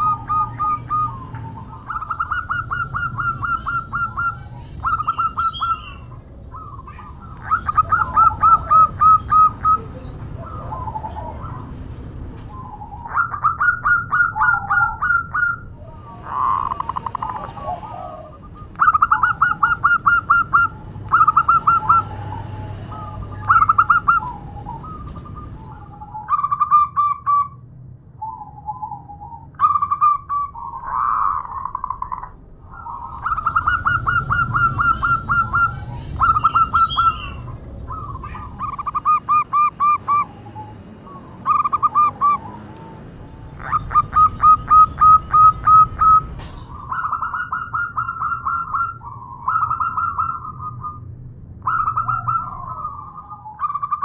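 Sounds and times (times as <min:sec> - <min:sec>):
dove stuttering coos: 0:00.0 - 0:11.9, 0:12.5 - 0:27.5, 0:28.3 - 0:51.0, 0:51.6 - 0:54.0.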